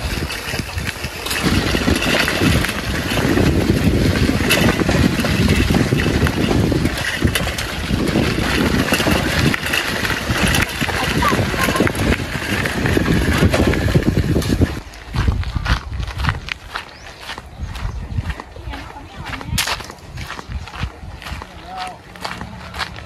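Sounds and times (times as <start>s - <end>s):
bicycle rattling over bumps: 0.0s - 23.0s
tyre noise on dirt track: 0.0s - 23.0s
wind buffeting microphone: 0.0s - 23.0s.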